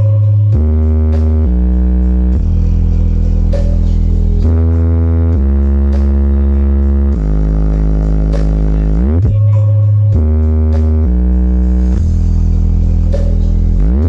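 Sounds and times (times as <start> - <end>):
bass-heavy electronic music: 0.0 - 14.0.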